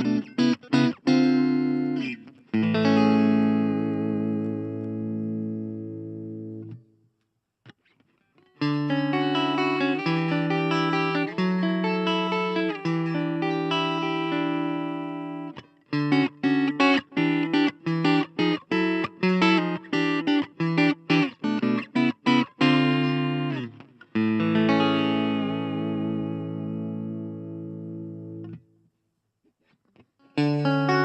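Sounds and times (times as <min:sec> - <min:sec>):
clean electric guitar chords: 0:00.0 - 0:06.8, 0:08.6 - 0:28.7, 0:30.3 - 0:31.0.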